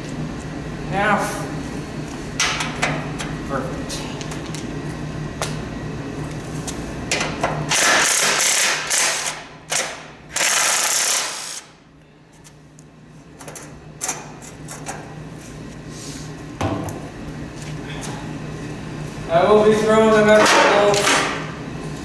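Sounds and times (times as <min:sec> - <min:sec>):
steady low hum: 0:00.0 - 0:10.4, 0:11.4 - 0:22.0.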